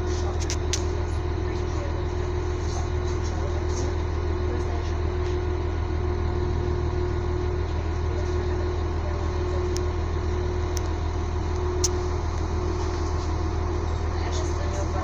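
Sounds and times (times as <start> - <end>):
constant hum: 0.0 - 15.0
train rumbling: 0.0 - 15.0.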